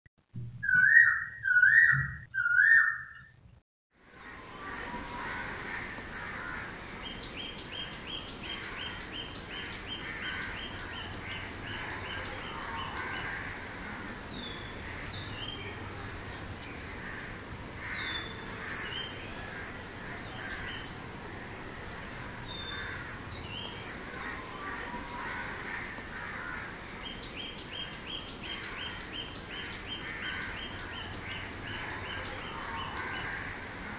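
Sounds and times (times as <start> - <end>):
birds chirping: 0.6 - 3.6, 4.3 - 33.9.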